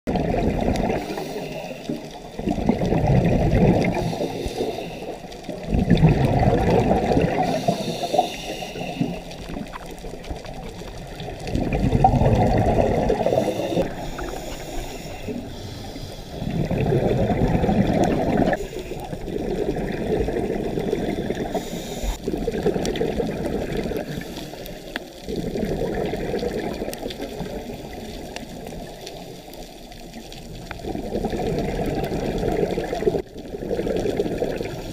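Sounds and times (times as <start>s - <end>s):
low underwater hiss: 0.1s - 34.9s
underwater bubbles bursting: 0.1s - 34.9s.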